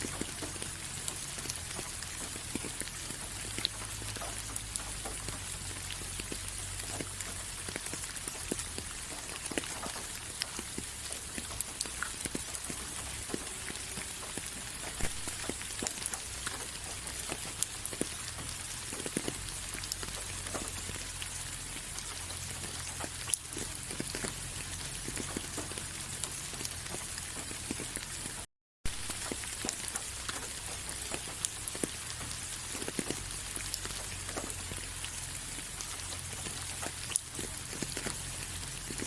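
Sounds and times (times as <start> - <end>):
hiss of rainfall: 0.0 - 39.0
rain drops tapping: 0.0 - 39.0.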